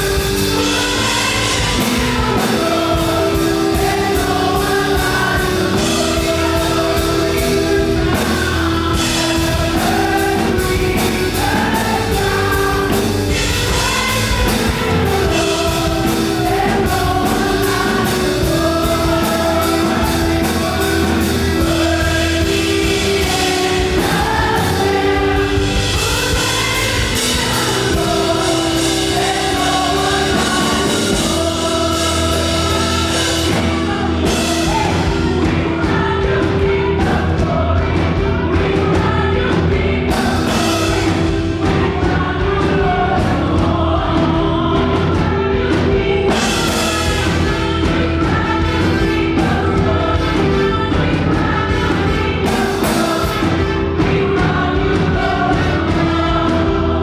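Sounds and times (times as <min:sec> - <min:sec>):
group singing worship song: 0:00.0 - 0:57.0
rapid drum beats: 0:00.0 - 0:57.0.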